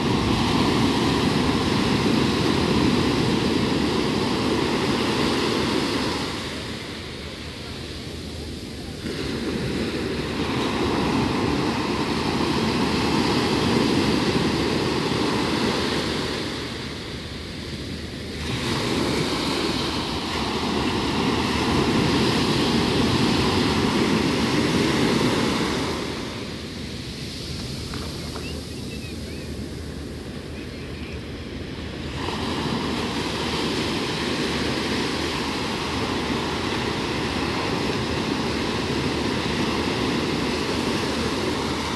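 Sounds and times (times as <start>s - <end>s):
surf breaking on sandy shore: 0.0s - 41.9s.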